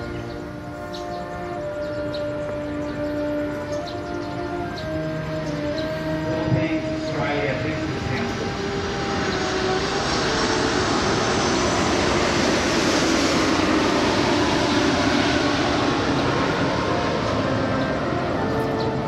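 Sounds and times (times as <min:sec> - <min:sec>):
engine passing by: 0:00.0 - 0:19.0.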